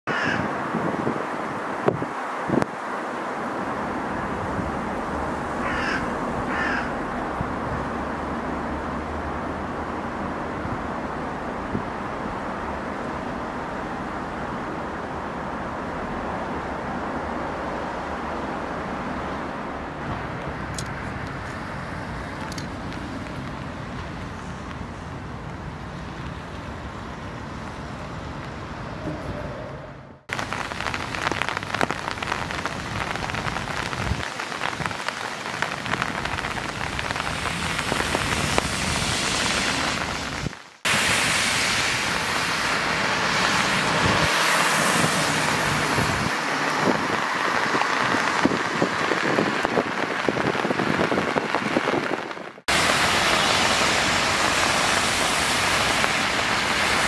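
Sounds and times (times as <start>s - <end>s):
rain hiss: 0.1s - 28.8s, 30.2s - 57.0s
low rumble of traffic: 0.1s - 57.0s
traffic passing on wet roads: 0.1s - 57.0s.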